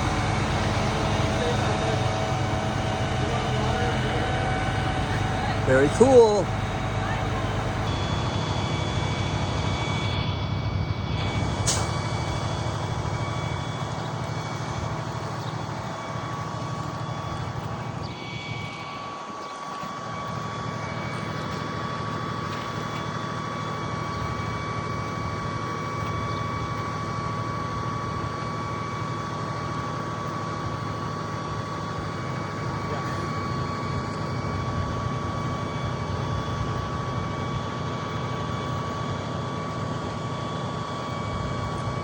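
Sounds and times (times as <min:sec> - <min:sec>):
high whine: 0:00.0 - 0:42.0
truck engine running: 0:00.0 - 0:42.0.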